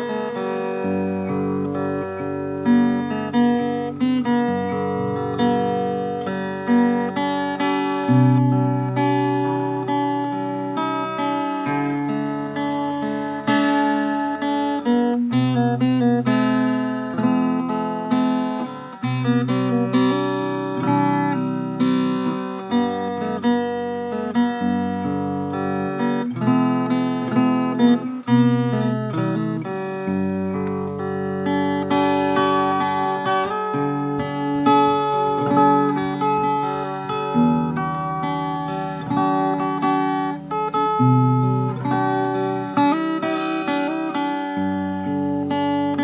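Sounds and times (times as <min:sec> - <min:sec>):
acoustic guitar music: 0:00.0 - 0:46.0.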